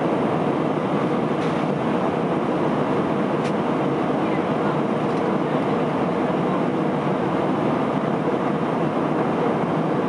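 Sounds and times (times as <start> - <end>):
jet engines and airflow rush: 0.0 - 10.0.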